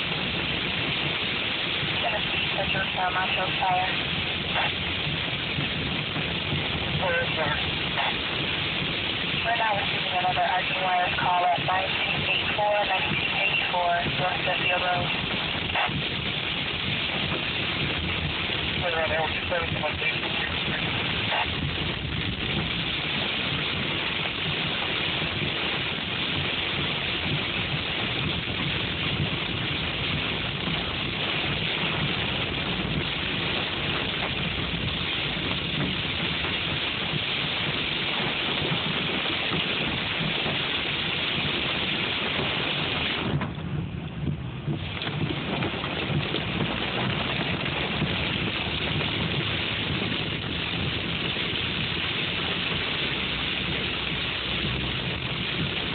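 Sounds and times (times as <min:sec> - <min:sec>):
hail and rain on car roof: 0:00.0 - 0:55.9.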